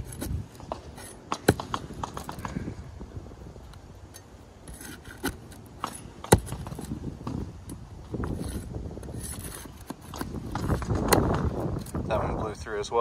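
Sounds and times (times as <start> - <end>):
metal tool scraping under shingles: 0.0 - 2.4, 3.6 - 12.4.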